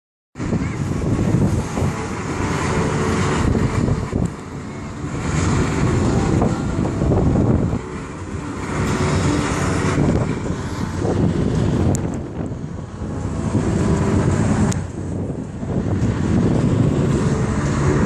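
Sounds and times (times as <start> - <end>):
gusty wind buffeting microphone: 0.4 - 18.0.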